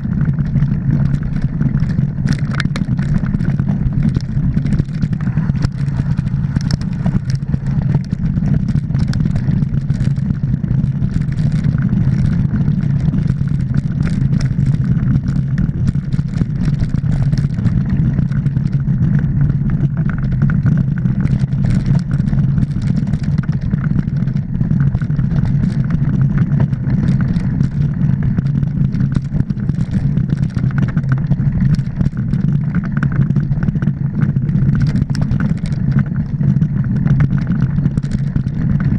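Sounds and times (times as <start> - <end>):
bike clicks and rattles: 0.0 - 38.9
wind and ride vibration rumble: 0.0 - 38.9.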